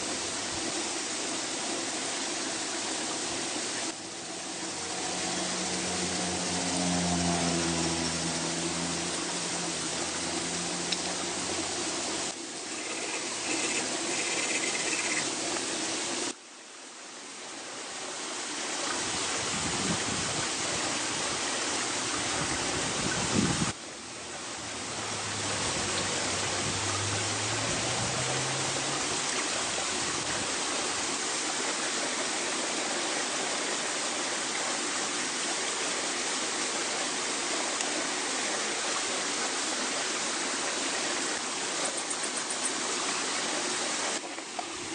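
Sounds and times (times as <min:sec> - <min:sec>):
forest stream rushing: 0:00.0 - 0:44.9.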